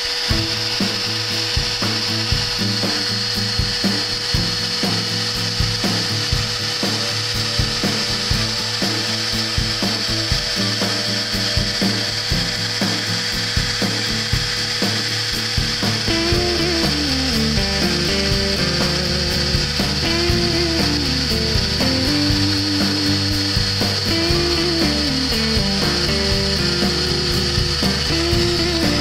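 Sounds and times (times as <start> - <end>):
milling machine spindle whine: 0.0 - 29.0
motor tones jumping in pitch: 0.0 - 29.0.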